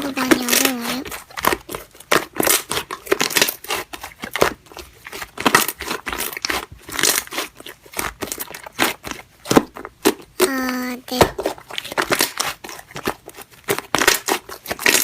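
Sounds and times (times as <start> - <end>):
slime crackling and popping: 0.0 - 15.0.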